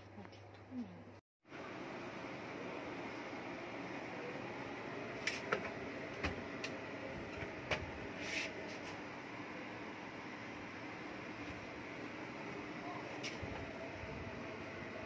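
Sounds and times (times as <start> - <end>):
oven fan humming: 0.0 - 15.0.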